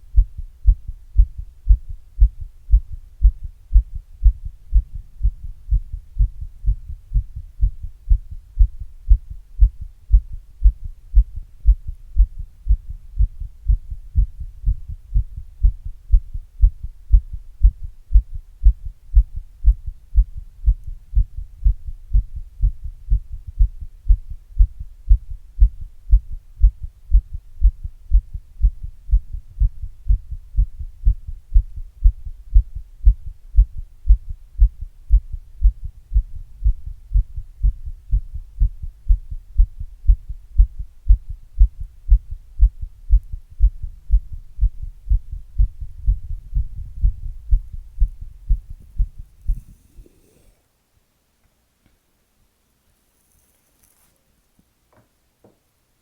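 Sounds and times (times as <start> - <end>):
heartbeat thumps: 0.0 - 49.9
faint hum: 0.0 - 50.7.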